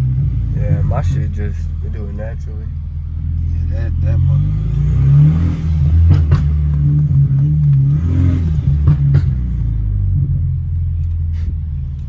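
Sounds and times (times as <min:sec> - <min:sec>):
car engine exhaust drone: 0:00.0 - 0:12.0
sharp exhaust pops: 0:00.0 - 0:12.0.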